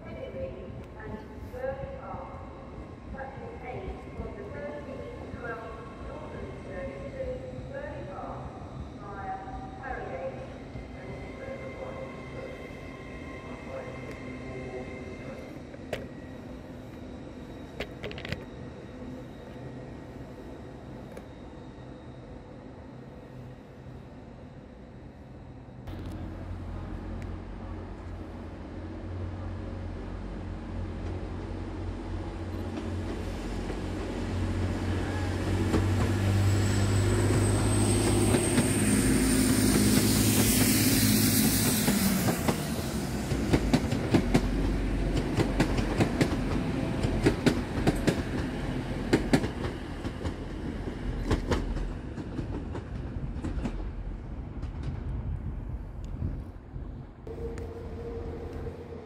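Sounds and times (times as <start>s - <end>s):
train engine hum: 0.0s - 59.0s.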